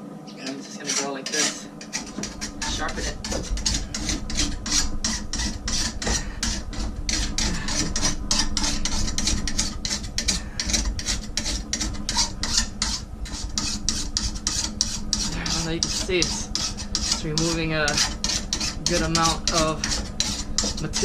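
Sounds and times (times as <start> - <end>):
file rasping on metal blade: 0.3 - 21.0.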